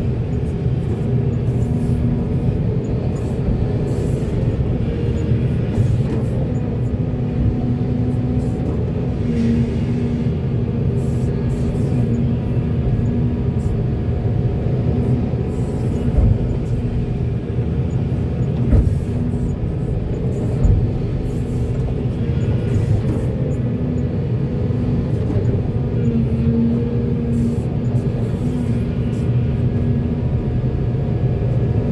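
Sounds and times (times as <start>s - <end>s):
heavy diesel machinery running: 0.0s - 31.9s.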